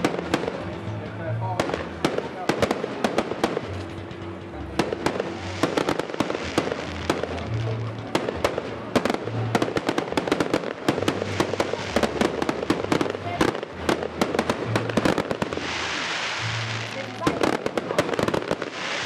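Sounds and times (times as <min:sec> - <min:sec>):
fireworks bursting and crackling: 0:00.0 - 0:19.0
music with low bass: 0:00.0 - 0:19.0.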